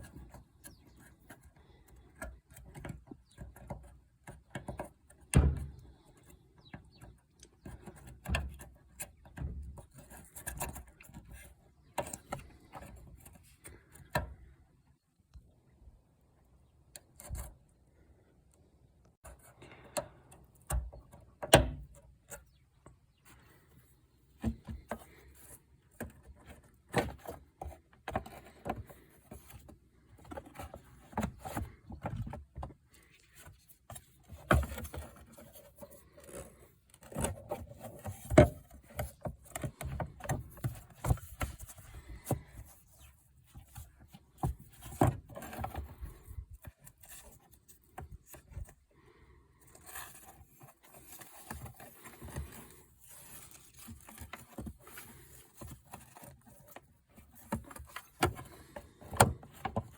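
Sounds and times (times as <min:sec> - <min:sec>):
knocks scrapes and rattles of handling: 0:00.0 - 0:14.9, 0:19.0 - 0:59.9.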